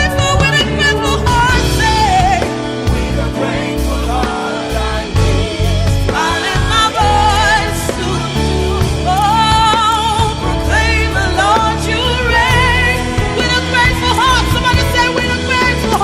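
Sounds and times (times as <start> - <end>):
live gospel band: 0.0 - 16.0
person singing with vibrato: 0.0 - 16.0.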